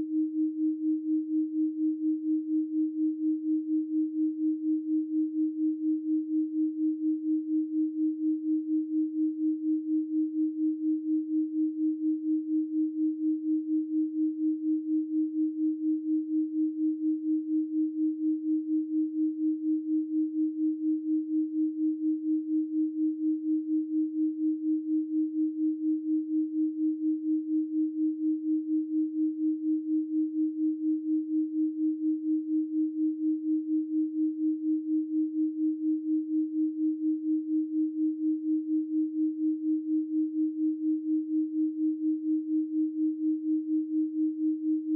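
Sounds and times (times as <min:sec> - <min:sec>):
wavering pure sine tone: 0:00.0 - 0:44.9.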